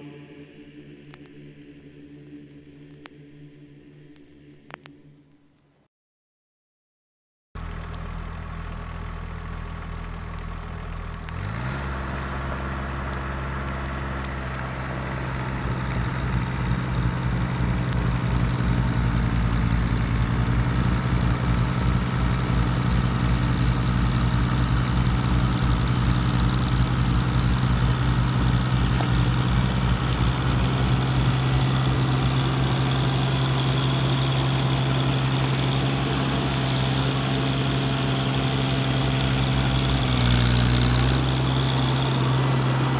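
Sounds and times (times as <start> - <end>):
tractor diesel engine revving: 7.6 - 42.9.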